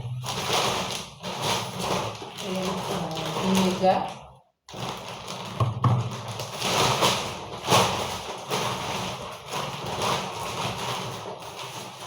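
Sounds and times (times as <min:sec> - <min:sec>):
groceries rustling and knocking: 0:00.0 - 0:12.0.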